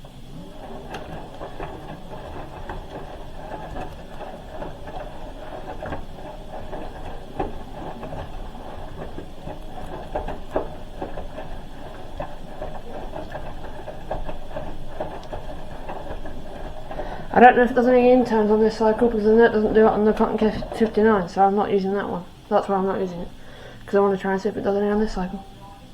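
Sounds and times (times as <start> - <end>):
laundry clunking and splashing: 0.0 - 25.9
washing machine drum turning: 0.0 - 25.9.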